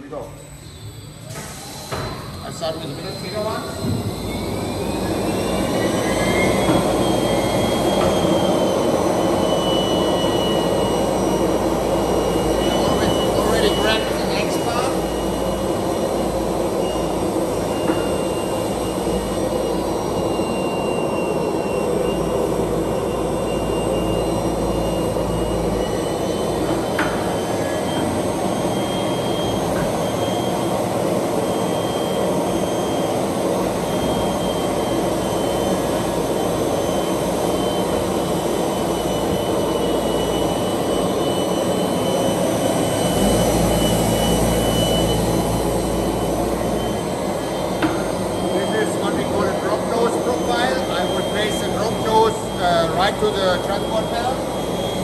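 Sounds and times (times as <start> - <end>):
faint high whine: 0.0 - 55.0
sanding machine drone: 2.6 - 55.0.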